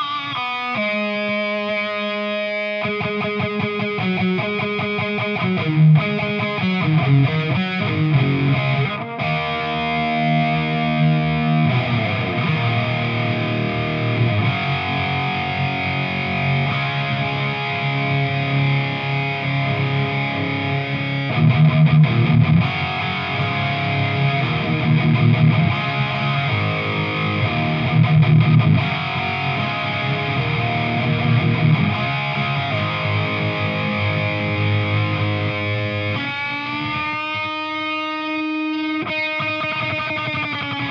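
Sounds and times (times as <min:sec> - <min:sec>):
overdriven electric guitar riffing: 0:00.0 - 0:40.9.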